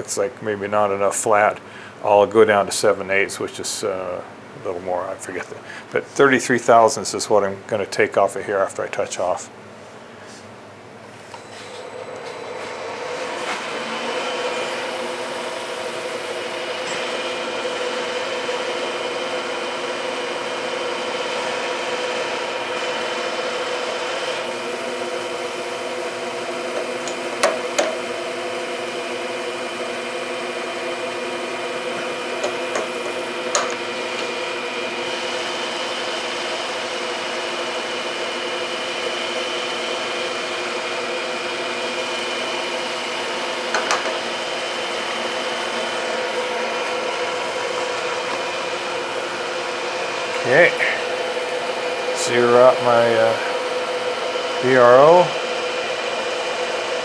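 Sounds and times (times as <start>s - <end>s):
milling machine humming: 10.8s - 57.0s.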